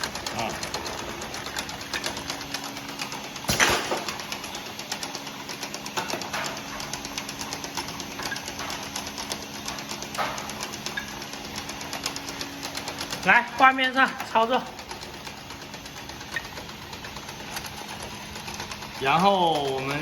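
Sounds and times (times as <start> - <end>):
machine and conveyor humming: 0.0 - 20.0
rapid machine ticking: 0.0 - 20.0.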